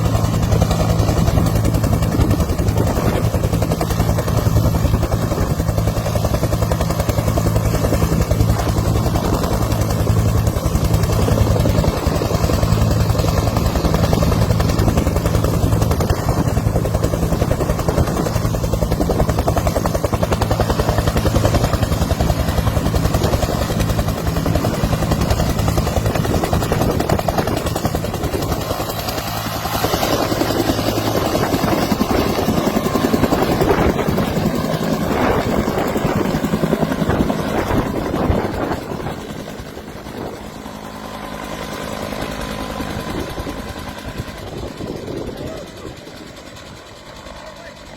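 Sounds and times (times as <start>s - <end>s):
helicopter rotor blades chopping: 0.0s - 47.9s.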